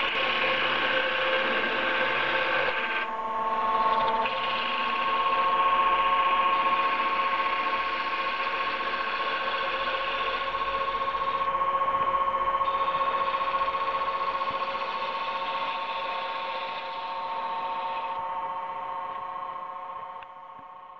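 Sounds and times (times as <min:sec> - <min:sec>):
wood lathe whine: 0:00.0 - 0:20.9.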